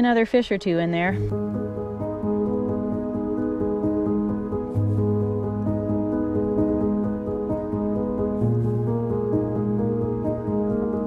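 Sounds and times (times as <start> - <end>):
steady low bass note: 1.1 - 11.0.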